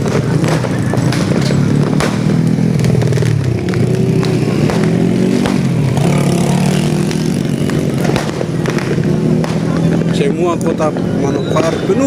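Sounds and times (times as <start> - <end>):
firecracker bangs: 0.0 - 12.0
motorcycle engines revving: 0.0 - 12.0.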